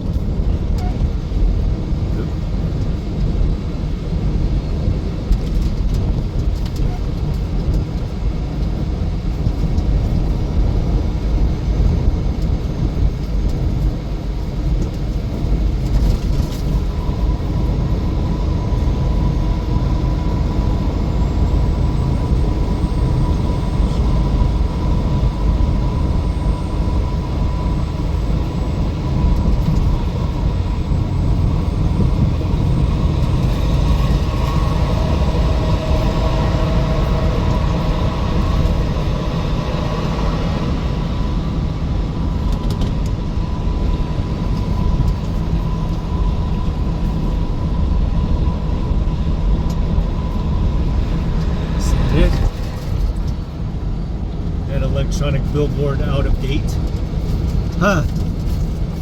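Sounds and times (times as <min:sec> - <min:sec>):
faint steady whine: 0:00.0 - 0:59.0
road and tyre noise in vehicle: 0:00.0 - 0:59.0.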